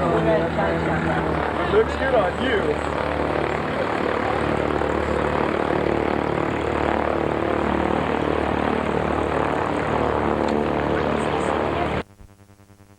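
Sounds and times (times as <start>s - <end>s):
propeller airplane engine running: 0.0s - 12.1s.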